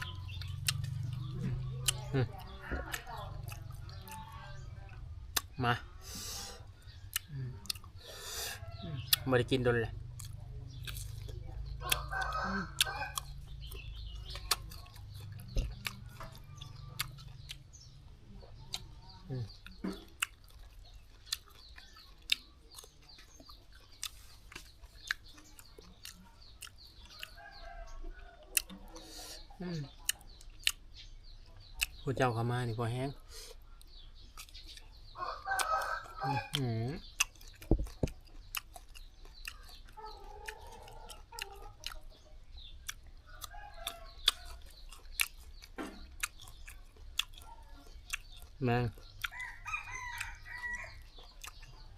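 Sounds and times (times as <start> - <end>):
chickens clucking: 0.0 - 51.9
crunching and chewing fruit: 0.0 - 51.9
faint birds chirping: 0.0 - 51.9.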